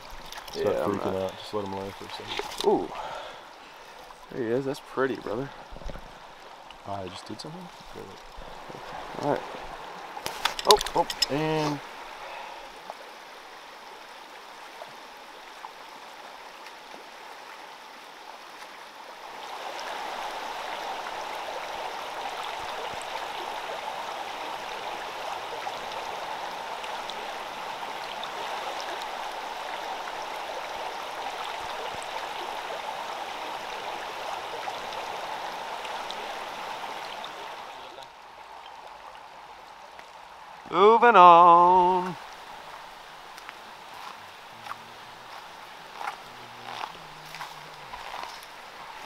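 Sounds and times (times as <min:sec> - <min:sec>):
creek running over rocks: 0:00.0 - 0:49.0.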